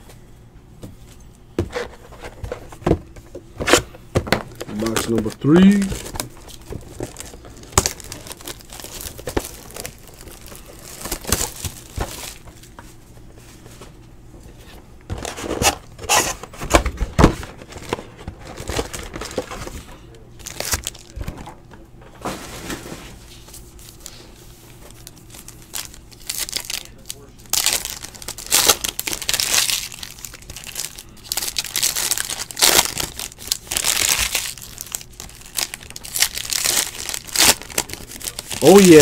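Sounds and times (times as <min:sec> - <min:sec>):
card wrappers crinkling and rustling: 0:01.8 - 0:13.6, 0:15.1 - 0:21.6, 0:22.2 - 0:39.0.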